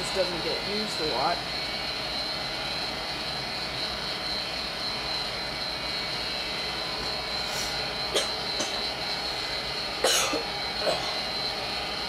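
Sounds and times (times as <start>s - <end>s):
furnace fans rushing: 0.0s - 12.0s
thin high whine: 0.0s - 12.0s.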